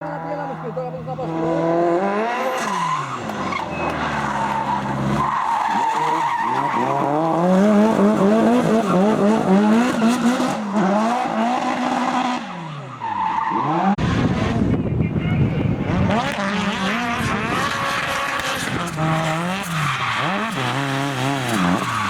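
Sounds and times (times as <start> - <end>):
tyres skidding and squealing: 0.0 - 22.0
car engine revving hard: 0.2 - 12.8, 15.6 - 22.0.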